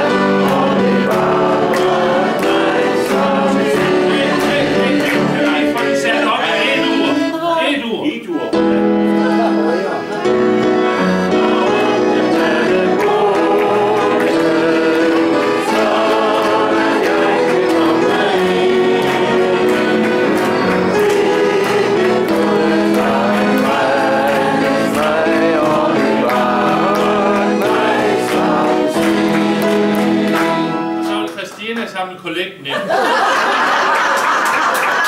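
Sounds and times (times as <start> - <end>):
people singing a hymn: 0.0 - 7.3, 10.1 - 31.0
accordion chords: 0.0 - 32.2.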